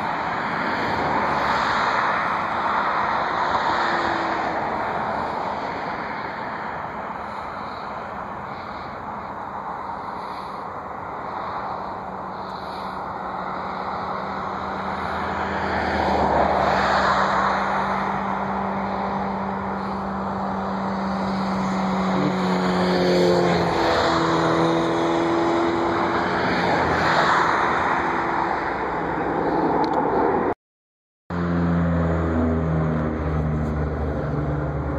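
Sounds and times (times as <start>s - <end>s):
traffic passing: 0.0s - 30.6s, 31.3s - 34.9s.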